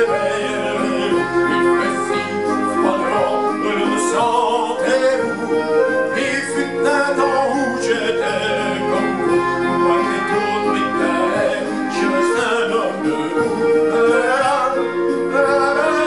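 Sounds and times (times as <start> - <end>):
accordion: 0.0 - 16.0
man singing: 0.0 - 16.0.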